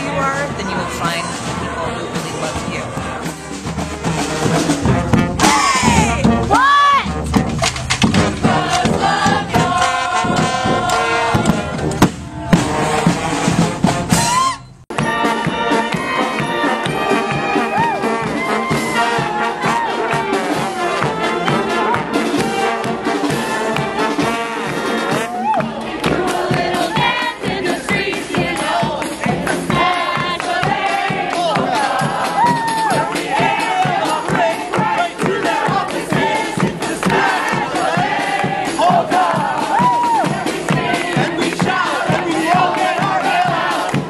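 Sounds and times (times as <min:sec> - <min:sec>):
brass band playing: 0:00.0 - 0:44.0
crowd voices: 0:00.0 - 0:44.0.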